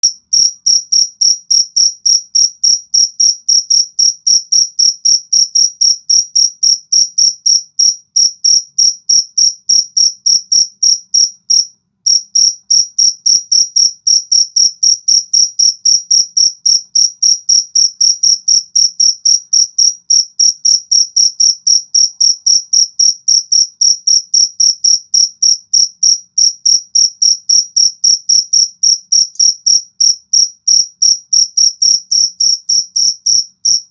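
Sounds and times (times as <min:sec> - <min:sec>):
cricket chirping: 0:00.0 - 0:33.9.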